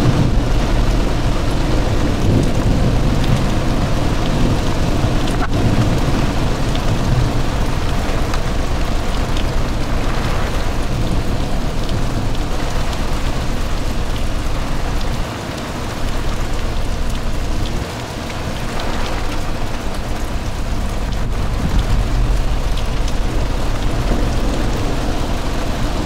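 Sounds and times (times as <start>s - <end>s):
heavy rain pouring: 0.0s - 26.0s
low thunder rumble: 0.0s - 26.0s.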